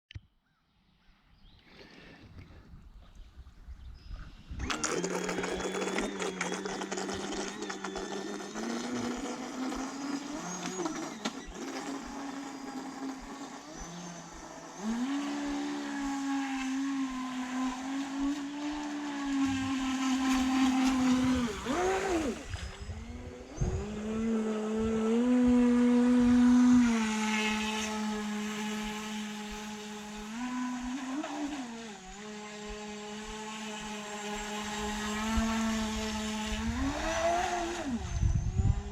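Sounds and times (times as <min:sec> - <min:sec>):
model boat motor whine: 0:02.8 - 0:38.9.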